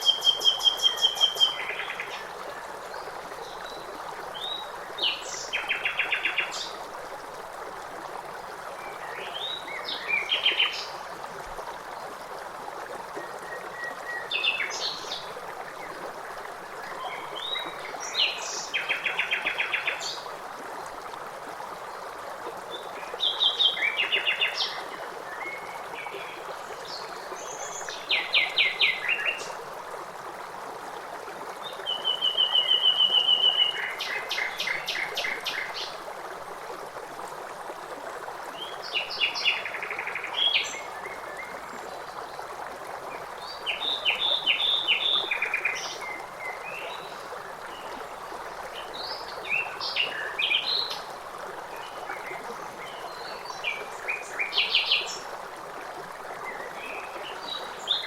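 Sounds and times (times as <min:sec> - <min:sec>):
running stream: 0:00.0 - 0:58.0.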